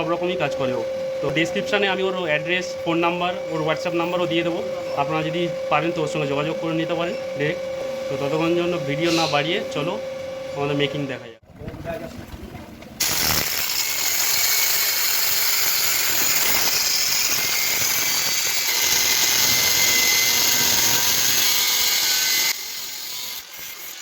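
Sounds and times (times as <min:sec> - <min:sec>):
power tool working metal: 0:00.0 - 0:11.1, 0:13.0 - 0:24.0.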